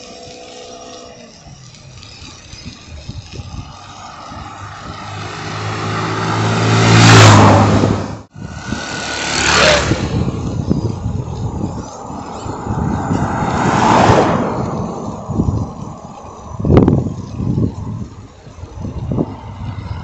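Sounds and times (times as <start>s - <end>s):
vehicles passing close by: 0.0s - 20.0s.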